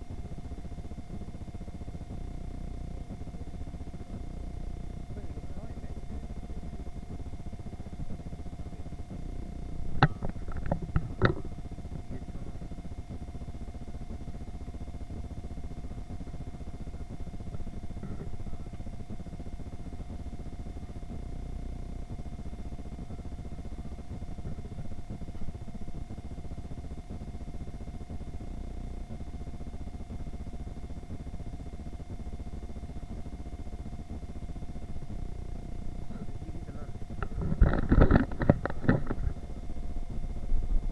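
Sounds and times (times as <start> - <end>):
faint constant tones: 0.0 - 40.9
steady low hum: 0.0 - 40.9.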